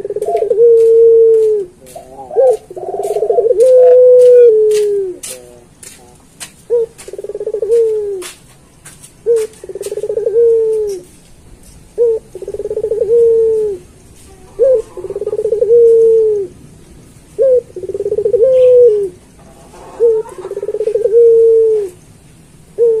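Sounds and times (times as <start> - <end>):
dove cooing: 0.0 - 5.7, 6.7 - 8.4, 9.2 - 16.6, 17.2 - 22.0, 22.7 - 23.0.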